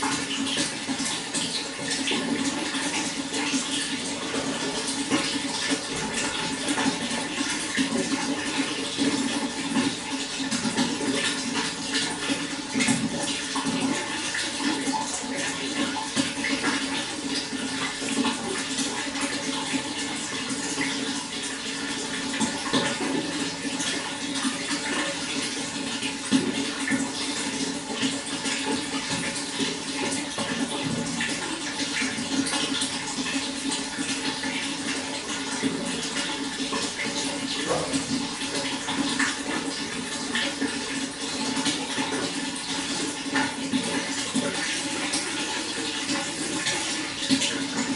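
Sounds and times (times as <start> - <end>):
water running and splashing: 0.0 - 47.9.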